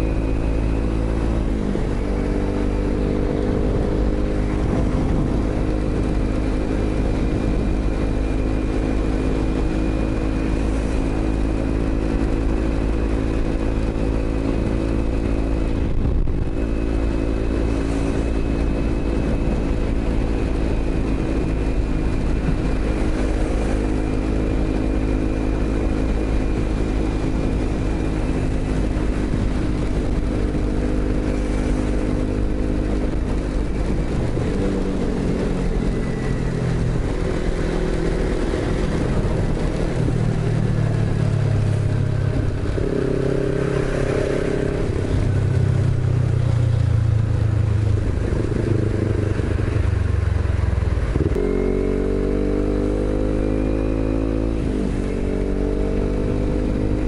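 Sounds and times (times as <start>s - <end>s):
motorcycle engine: 0.0s - 57.0s
wind and wet tyres hiss: 0.0s - 57.0s.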